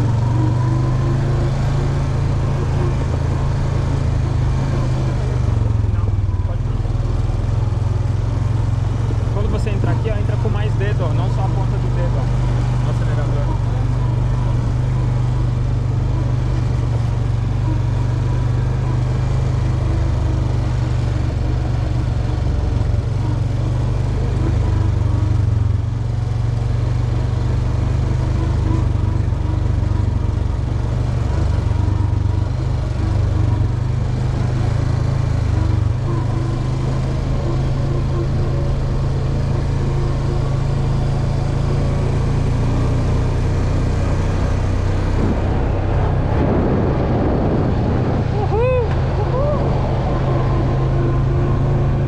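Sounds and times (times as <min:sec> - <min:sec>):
quad bike engine droning: 0:00.0 - 0:52.0.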